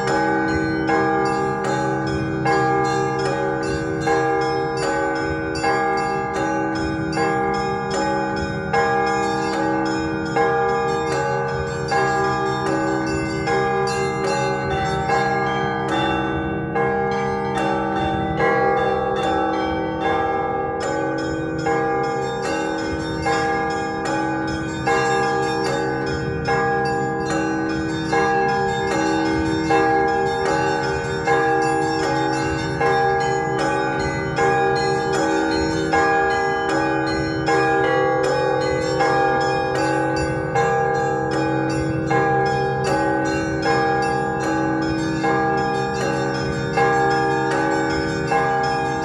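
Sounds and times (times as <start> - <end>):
church bells pealing: 0.0 - 49.0.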